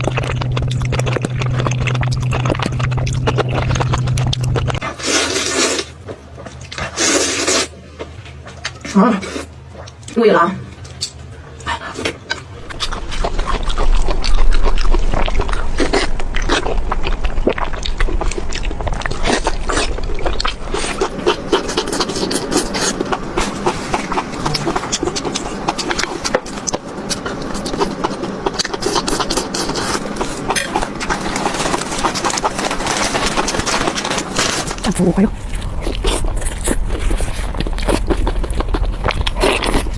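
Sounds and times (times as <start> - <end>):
rapid chewing and lip smacks: 0.0 - 4.9, 10.8 - 39.9.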